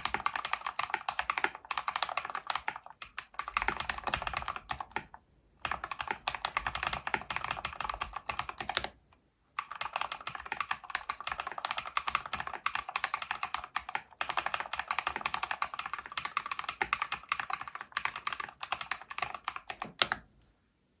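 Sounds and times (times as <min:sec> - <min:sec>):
fast typing on mechanical keyboard: 0:00.0 - 0:09.0, 0:09.6 - 0:20.2.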